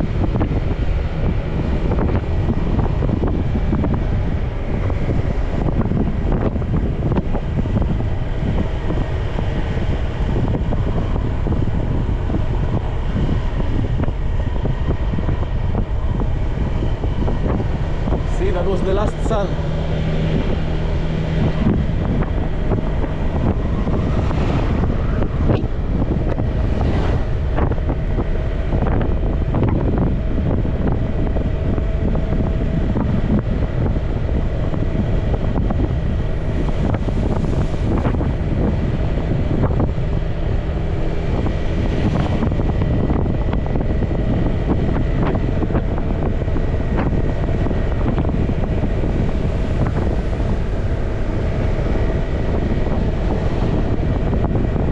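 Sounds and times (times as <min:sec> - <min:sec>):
motorcycle engine running: 0:00.0 - 0:54.9
road noise: 0:00.0 - 0:54.9
wind buffeting microphone: 0:00.0 - 0:54.9.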